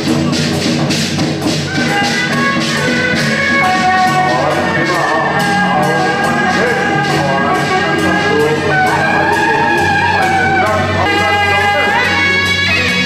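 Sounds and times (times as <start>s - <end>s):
drum and cymbal beats: 0.0s - 13.0s
shrill wind instrument melody: 1.5s - 13.0s.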